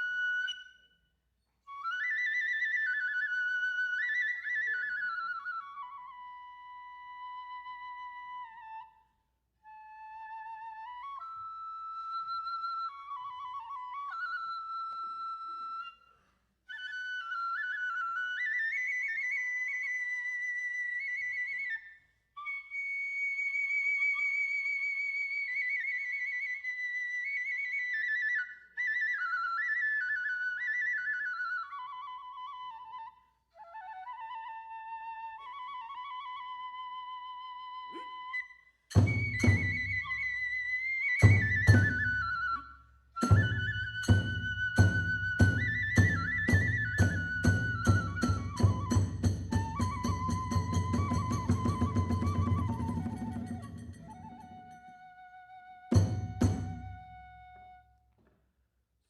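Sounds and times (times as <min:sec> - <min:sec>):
bamboo flute melody: 0:00.0 - 0:58.2.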